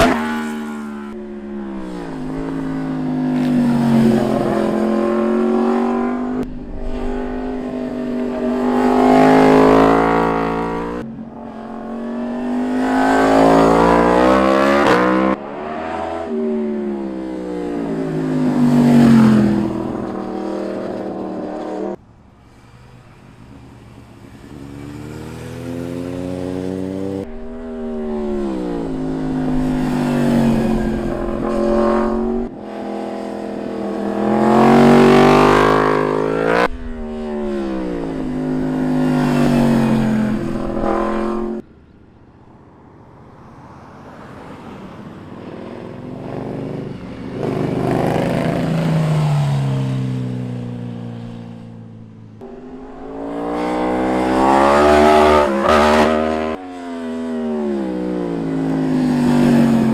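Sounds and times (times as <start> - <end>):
motorcycles revving past: 0.0 - 42.0, 42.6 - 59.9.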